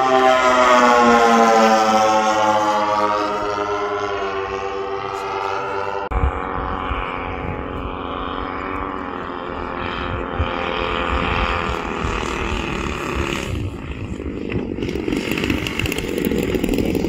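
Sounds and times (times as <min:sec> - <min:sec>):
model plane engines and propellers: 0:00.0 - 0:17.0.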